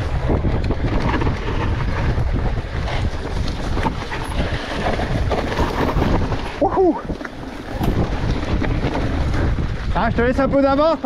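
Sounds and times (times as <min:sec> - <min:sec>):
tyre rumble: 0:00.0 - 0:10.3
bike clattering over stones: 0:00.0 - 0:11.0
wind rushing over microphone: 0:00.0 - 0:11.0.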